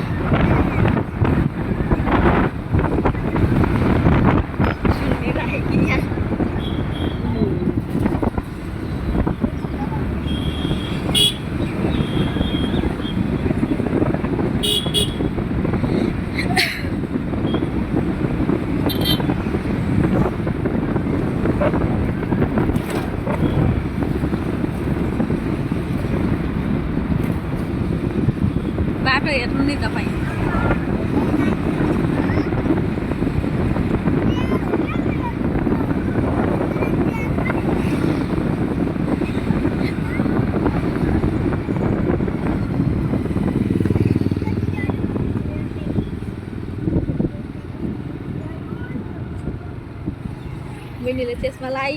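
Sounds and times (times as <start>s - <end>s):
road traffic rumble: 0.0s - 51.9s
wind buffeting microphone: 0.0s - 51.9s.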